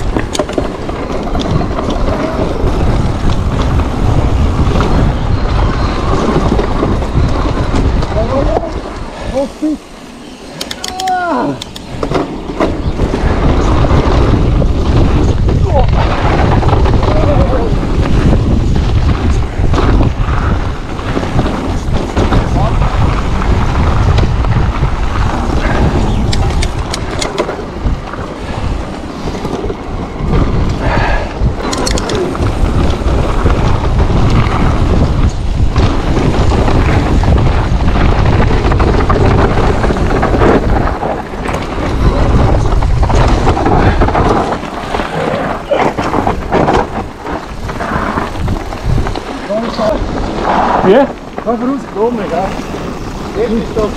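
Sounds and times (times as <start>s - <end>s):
bike rattles and knocks: 0.0s - 53.9s
tyres rumbling over dirt: 0.0s - 53.9s
wind buffeting microphone: 0.0s - 53.9s.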